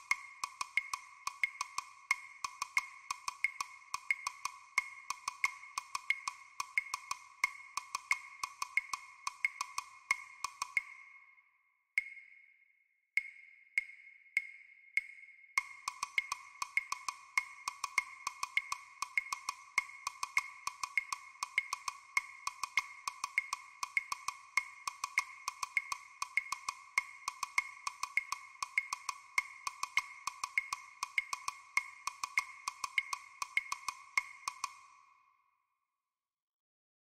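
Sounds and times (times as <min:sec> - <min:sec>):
percussion duet clicks: 0:00.0 - 0:11.2, 0:12.0 - 0:12.4, 0:13.2 - 0:35.1.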